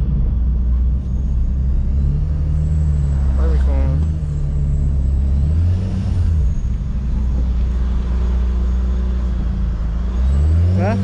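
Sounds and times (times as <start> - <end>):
car engine and exhaust droning: 0.0 - 11.0.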